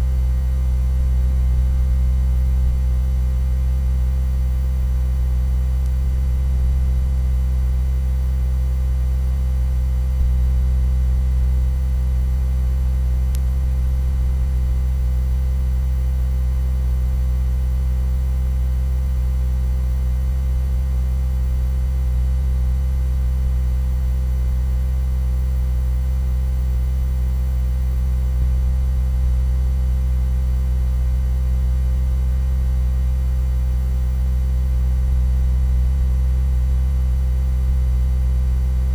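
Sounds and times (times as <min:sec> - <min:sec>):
low-pitched hum: 0:00.0 - 0:38.9.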